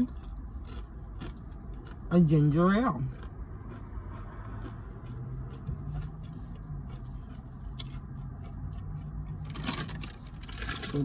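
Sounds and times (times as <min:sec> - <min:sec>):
low rumble inside truck cab: 0:00.0 - 0:11.0.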